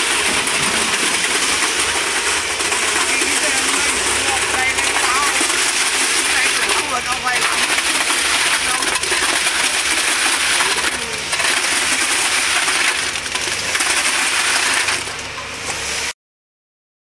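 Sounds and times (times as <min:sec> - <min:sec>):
concrete pump rushing: 0:00.0 - 0:16.1.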